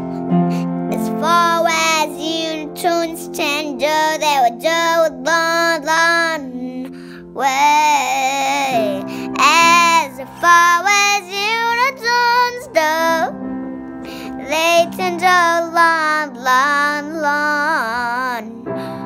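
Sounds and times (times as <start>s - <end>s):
girl singing: 0.5s - 19.0s.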